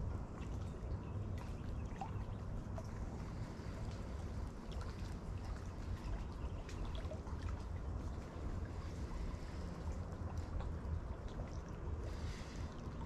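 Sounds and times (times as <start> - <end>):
low steady rumble: 0.0 - 13.0
water lapping against boat hull: 0.0 - 13.0.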